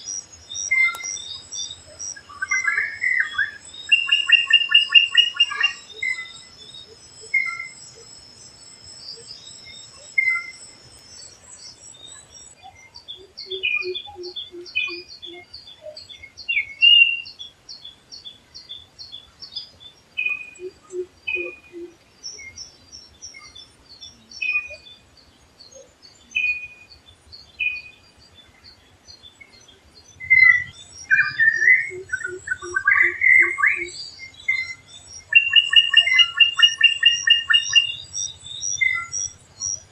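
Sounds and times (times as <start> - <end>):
birds whistling and chirping: 0.0 - 39.9.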